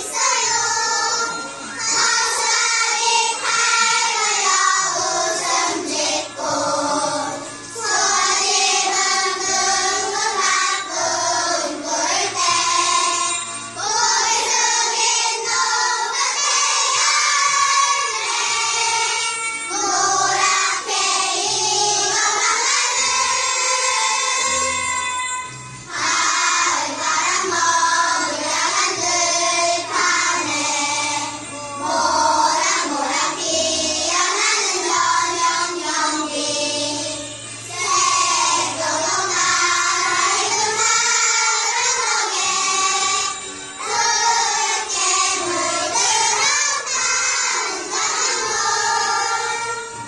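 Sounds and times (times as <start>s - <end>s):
children singing in unison: 0.0s - 50.0s
instrumental backing music: 0.0s - 50.0s.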